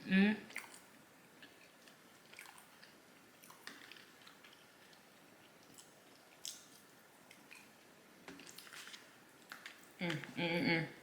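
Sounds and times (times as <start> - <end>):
person chewing food: 0.5 - 10.4.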